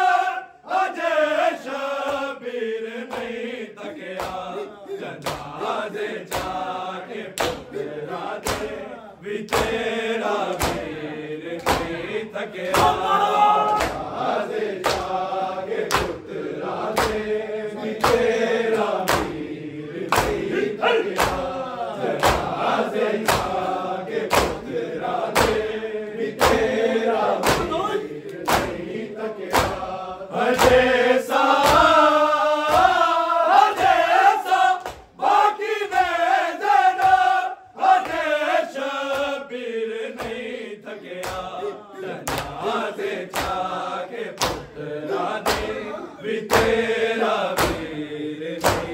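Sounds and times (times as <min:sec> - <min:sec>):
men chanting in unison: 0:00.0 - 0:48.9
hands slapping chests: 0:02.0 - 0:02.3, 0:03.1 - 0:03.4, 0:04.0 - 0:38.3, 0:39.0 - 0:39.4, 0:40.2 - 0:45.8, 0:46.4 - 0:48.9.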